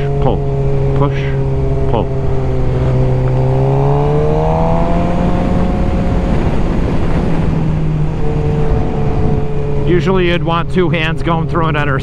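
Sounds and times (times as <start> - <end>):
motorcycle engine cruising: 0.0 - 12.0
wind rushing over microphone: 1.4 - 12.0.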